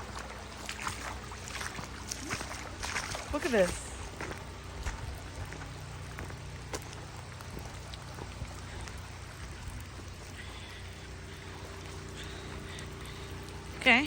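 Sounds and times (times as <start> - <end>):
drops ticking nearby: 0.0 - 14.0
running floodwater: 0.0 - 14.0
steady rain: 0.0 - 14.0.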